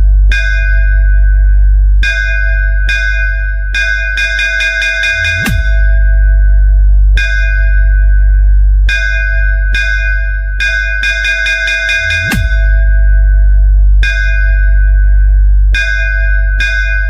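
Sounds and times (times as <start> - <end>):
bass-heavy electronic music: 0.0 - 17.0.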